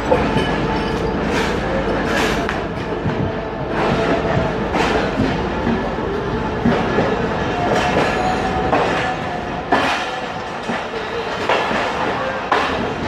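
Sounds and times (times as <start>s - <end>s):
train wheels clacking over rail joints: 0.0s - 5.9s, 6.6s - 13.0s
steady train rumble: 0.0s - 13.0s.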